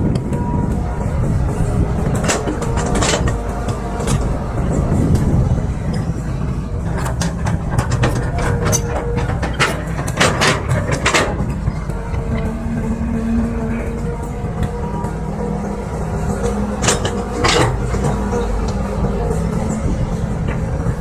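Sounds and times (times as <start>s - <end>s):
diesel engine running: 0.0s - 21.0s
metallic clanks and knocks: 2.0s - 21.0s.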